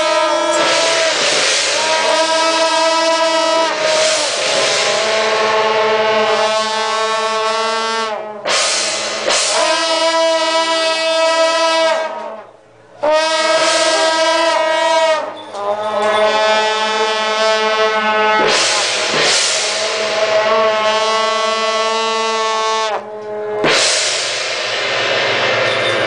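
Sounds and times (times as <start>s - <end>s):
wind instrument long notes: 0.0s - 24.4s.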